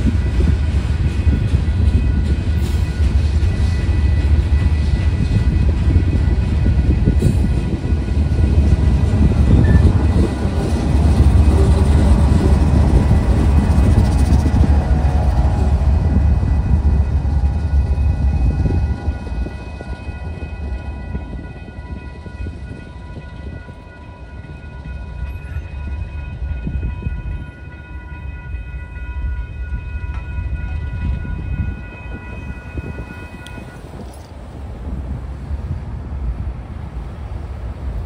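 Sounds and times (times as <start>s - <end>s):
crossing warning bell ringing: 0.0s - 34.5s
freight train rumbling past: 0.0s - 38.0s.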